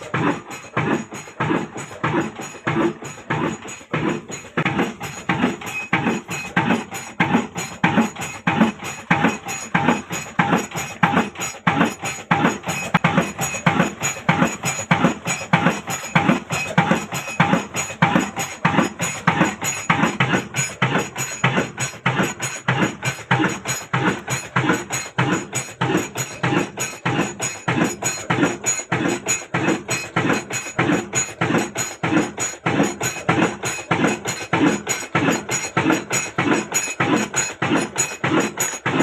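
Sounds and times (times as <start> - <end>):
diesel engine knocking: 0.0 - 39.0.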